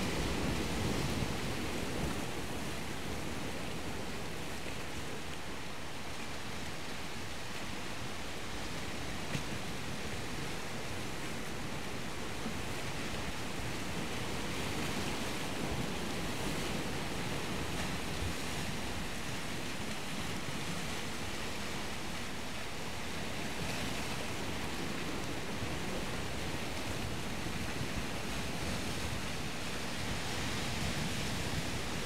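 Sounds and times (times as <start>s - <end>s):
sea surf rushing: 0.0s - 32.0s.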